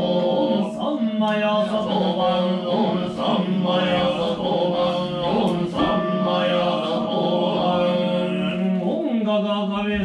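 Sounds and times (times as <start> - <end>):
men chanting in monotone: 0.0 - 10.0.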